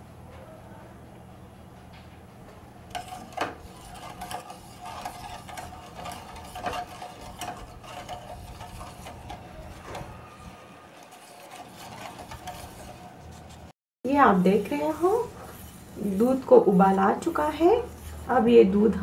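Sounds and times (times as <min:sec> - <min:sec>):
whisk scraping a steel pan: 0:02.9 - 0:18.8.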